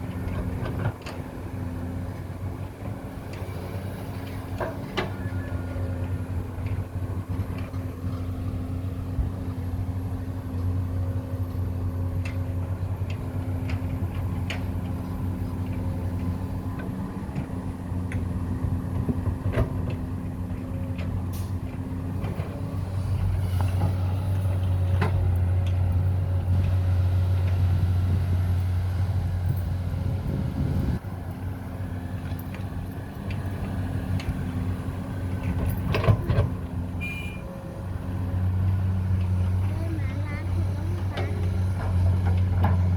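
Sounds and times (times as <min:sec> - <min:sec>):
excavator running: 0:00.0 - 0:42.9.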